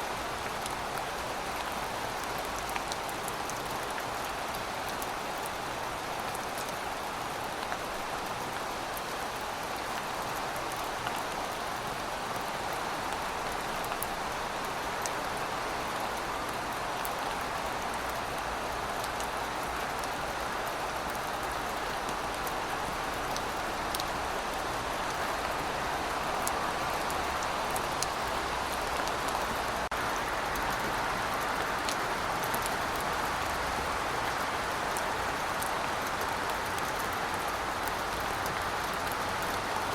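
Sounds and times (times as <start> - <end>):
steady rain hiss: 0.0 - 39.9
raindrops ticking on a surface: 0.2 - 39.9.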